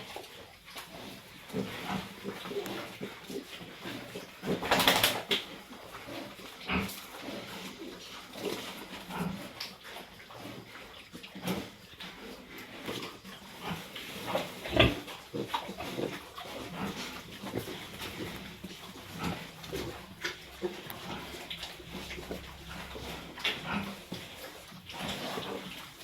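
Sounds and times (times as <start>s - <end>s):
pigs and piglets calling: 0.0s - 26.0s.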